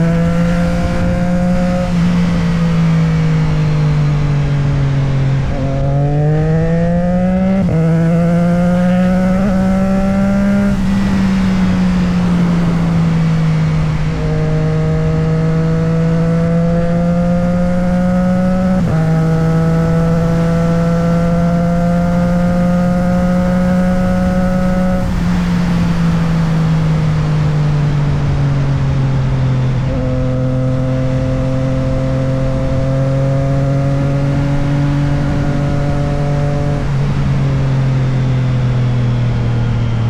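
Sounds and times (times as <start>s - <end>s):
motorcycle engine: 0.0s - 40.0s.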